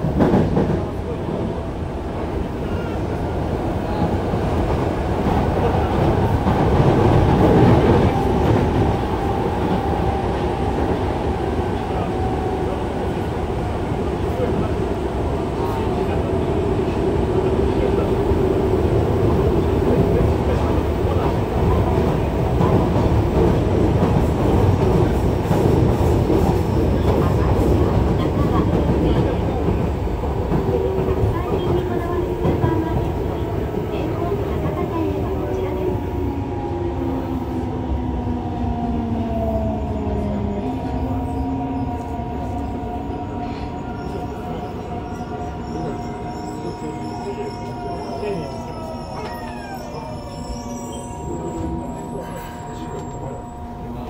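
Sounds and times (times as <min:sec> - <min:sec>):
train wheels rolling on rail: 0:00.0 - 0:54.0.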